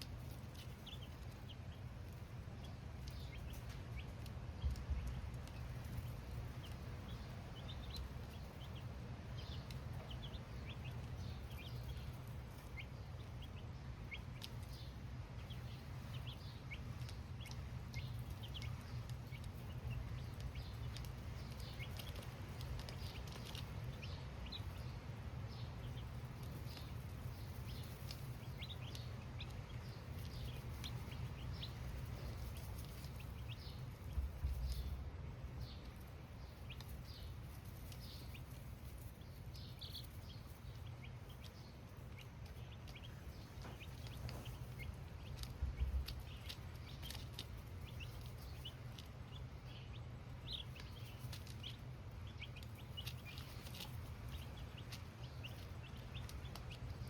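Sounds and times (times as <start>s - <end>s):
baby chicks cheeping: 0.0s - 57.0s
steady low hum: 0.0s - 57.0s.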